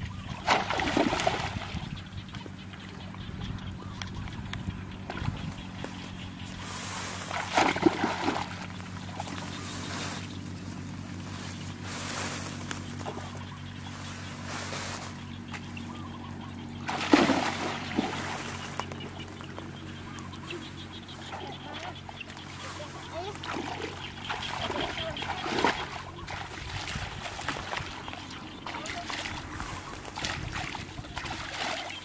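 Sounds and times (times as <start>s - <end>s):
water sloshing and splashing: 0.1s - 32.0s.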